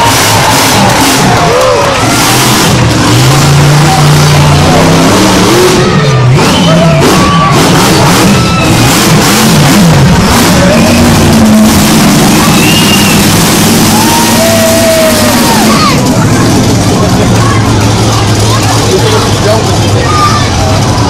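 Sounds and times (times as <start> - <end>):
loud music: 0.0 - 19.0
truck engine revving: 0.0 - 21.0.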